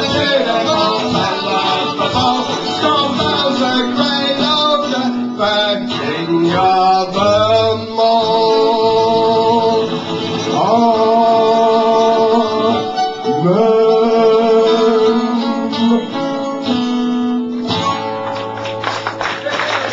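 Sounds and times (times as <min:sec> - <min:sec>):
strummed acoustic guitar: 0:00.0 - 0:19.9.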